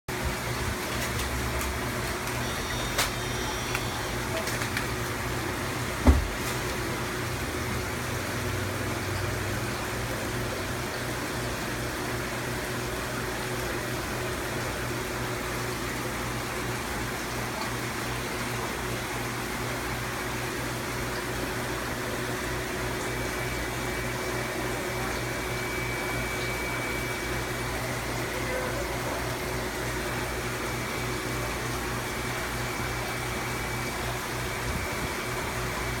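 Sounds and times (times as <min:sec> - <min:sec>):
aquarium equipment hum and hiss: 0:00.1 - 0:36.0.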